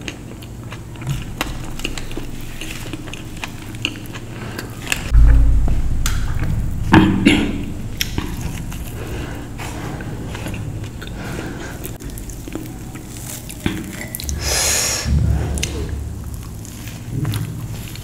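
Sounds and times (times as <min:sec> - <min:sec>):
person chewing and eating: 0:00.0 - 0:05.2, 0:08.0 - 0:18.0.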